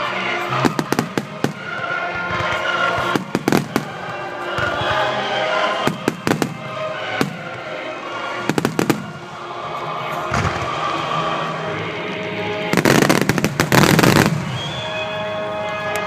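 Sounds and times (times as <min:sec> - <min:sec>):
music playing: 0:00.0 - 0:16.0
fireworks bursting: 0:00.4 - 0:15.3.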